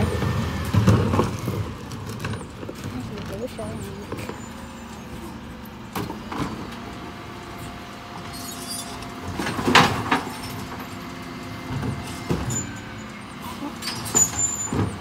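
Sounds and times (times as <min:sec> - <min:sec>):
bin lorry idling: 0:00.0 - 0:15.0.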